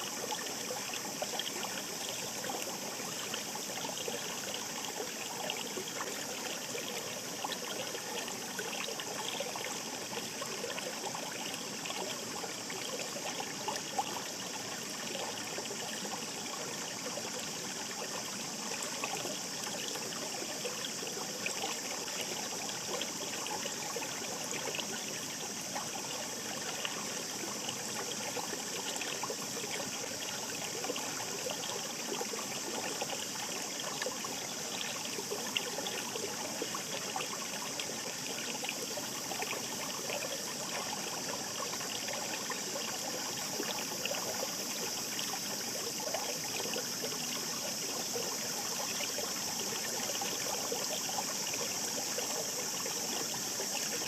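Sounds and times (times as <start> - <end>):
small trickles and splashes: 0.0 - 54.0
stream water rushing: 0.0 - 54.0.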